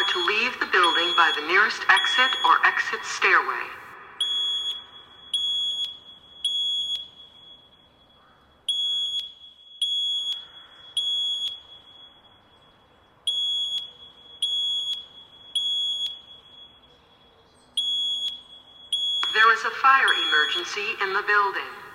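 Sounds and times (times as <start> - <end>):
fire alarm high-pitched beeps: 0.0 - 21.9.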